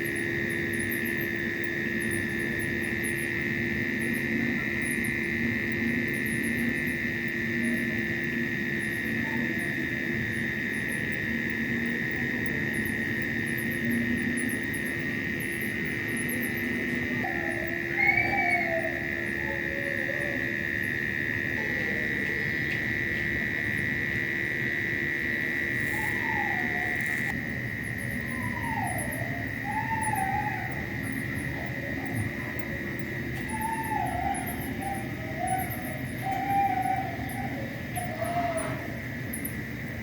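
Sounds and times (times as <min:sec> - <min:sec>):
rapid high ticking: 0:00.0 - 0:40.0
shrill insect drone: 0:00.0 - 0:40.0
wavering animal calls: 0:00.0 - 0:40.0.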